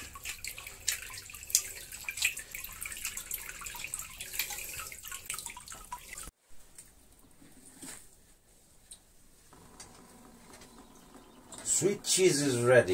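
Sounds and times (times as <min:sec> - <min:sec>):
whey trickling and dripping: 0:00.0 - 0:07.8, 0:08.8 - 0:12.7.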